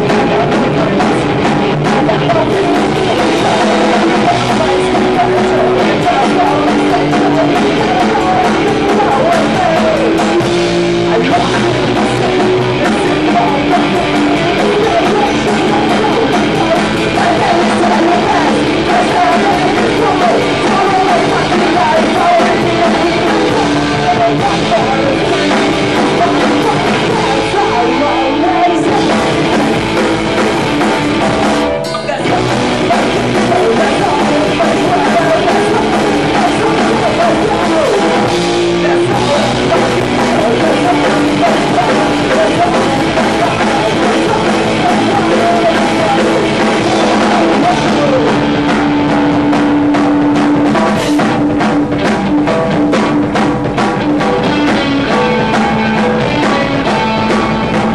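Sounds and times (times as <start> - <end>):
distorted electric guitar: 0.0 - 57.9
drum kit: 0.0 - 57.9
sung vocals: 0.0 - 57.9.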